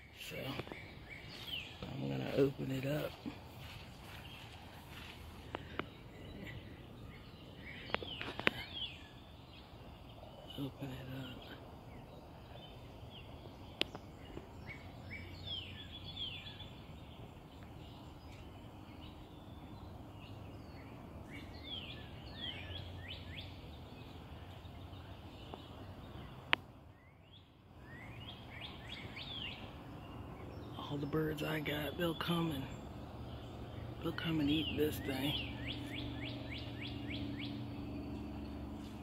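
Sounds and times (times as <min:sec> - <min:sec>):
low background hum: 0:00.0 - 0:39.0
songbirds chirping: 0:00.0 - 0:39.0.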